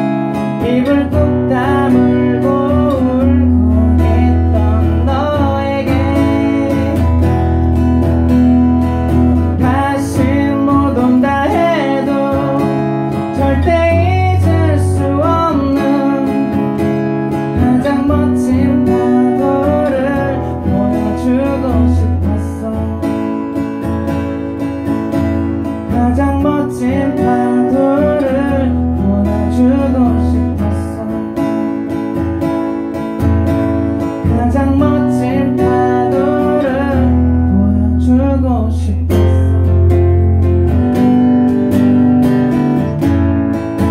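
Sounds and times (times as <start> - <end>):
man singing: 0.0 - 23.8, 25.6 - 32.0, 34.0 - 40.0
acoustic guitar strummed: 0.0 - 43.9.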